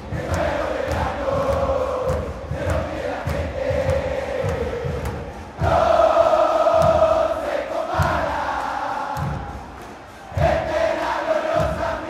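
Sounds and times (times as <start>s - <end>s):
crowd chanting in unison: 0.0s - 12.0s
steady drum beat: 0.0s - 12.0s.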